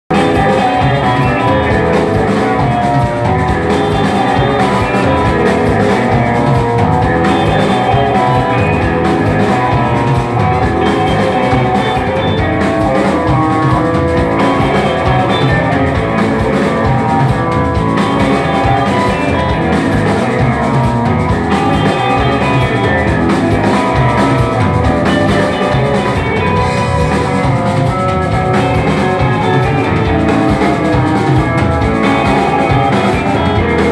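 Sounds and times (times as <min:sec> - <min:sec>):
drum kit: 0:00.0 - 0:33.9
electric guitars: 0:00.0 - 0:33.9.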